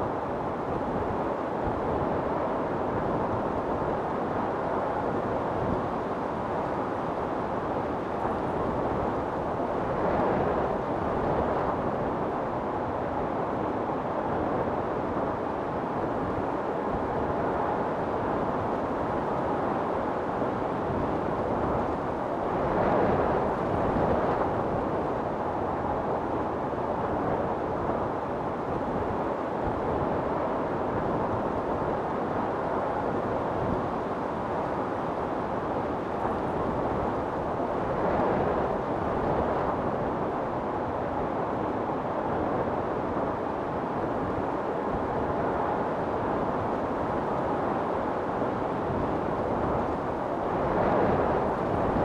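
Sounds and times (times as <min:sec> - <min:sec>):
wind storm blowing: 0:00.0 - 0:52.0.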